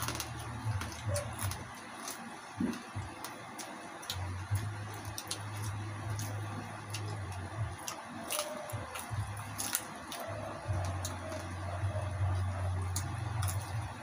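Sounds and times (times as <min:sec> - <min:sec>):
crunchy chewing: 0:00.0 - 0:14.0
low hum: 0:00.0 - 0:14.0.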